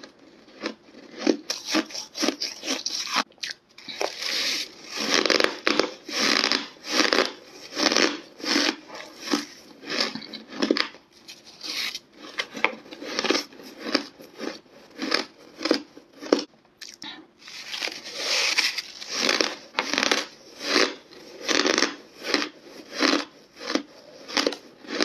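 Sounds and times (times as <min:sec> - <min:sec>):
crunchy ice chewing: 0:00.0 - 0:25.0.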